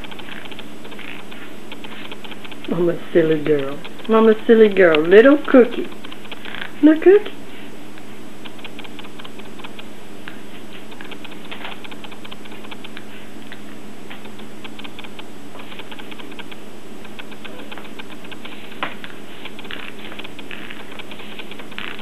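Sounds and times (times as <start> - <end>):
puppy chewing and gnawing: 0.0 - 6.8, 10.7 - 22.0
steady low hum: 0.0 - 22.0.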